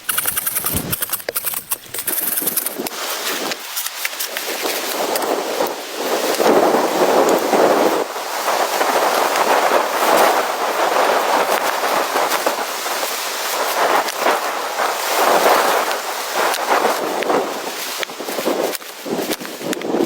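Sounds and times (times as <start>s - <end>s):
blizzard wind gusts: 0.4s - 20.0s.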